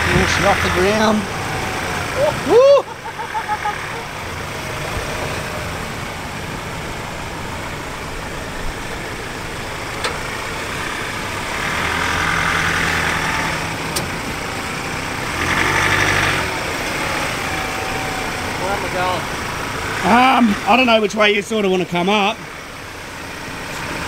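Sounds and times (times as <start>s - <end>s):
diesel truck engine working: 0.0s - 24.0s.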